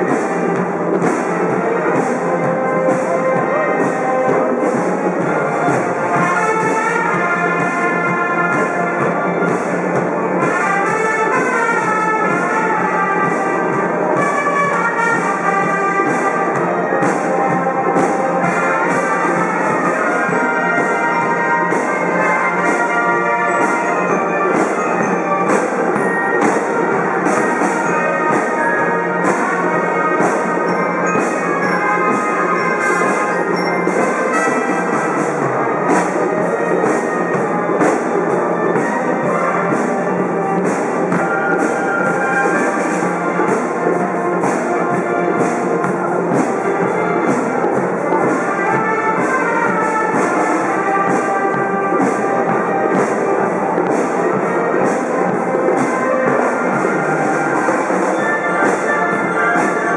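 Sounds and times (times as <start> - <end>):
brass melody: 0.0 - 59.9
steady drumbeat: 0.0 - 59.9.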